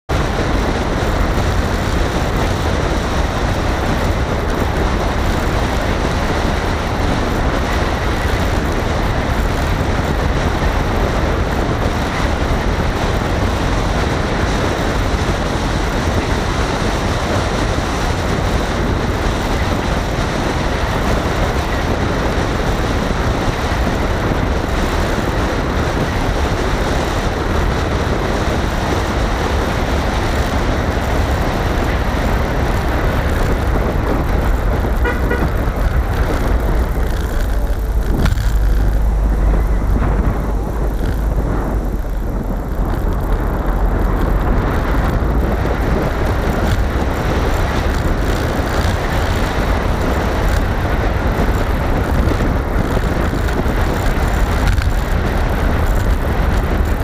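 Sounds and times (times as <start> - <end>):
car rumbling on a gravel road: 0.0 - 57.0.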